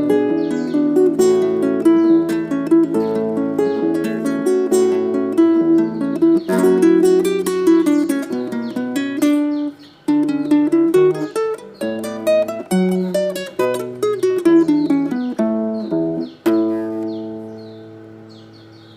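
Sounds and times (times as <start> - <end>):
acoustic guitar chords: 0.0 - 18.9
faint bird chirps: 0.0 - 18.9.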